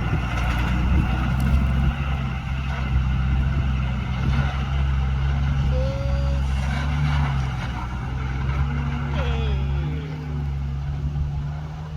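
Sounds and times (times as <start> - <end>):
diesel engine droning: 0.0 - 11.9.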